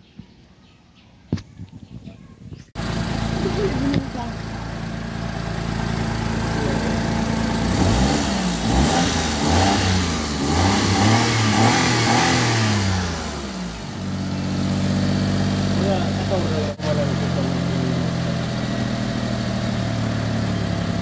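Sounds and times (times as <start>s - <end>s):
car engine idling and revving: 2.7s - 21.0s.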